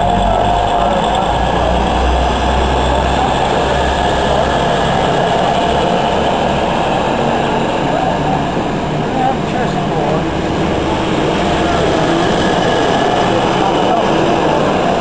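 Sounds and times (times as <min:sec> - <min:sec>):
constant ringing tone: 0:00.0 - 0:15.0
train rumbling past: 0:00.0 - 0:15.0.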